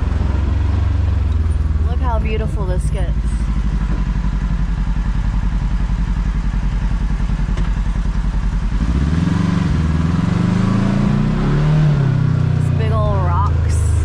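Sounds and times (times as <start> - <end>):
utility vehicle engine running: 0.0 - 14.0.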